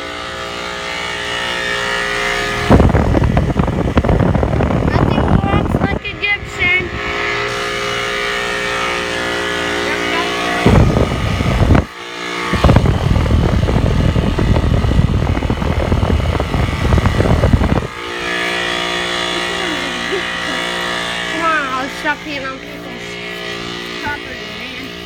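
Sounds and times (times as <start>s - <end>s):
air conditioner unit humming: 0.0s - 25.0s
wind buffeting microphone: 1.5s - 25.0s.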